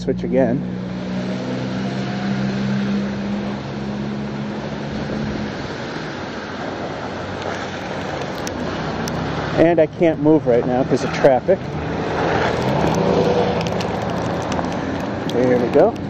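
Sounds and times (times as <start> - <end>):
car engine hum: 0.0 - 16.0
road and wind noise: 0.0 - 16.0.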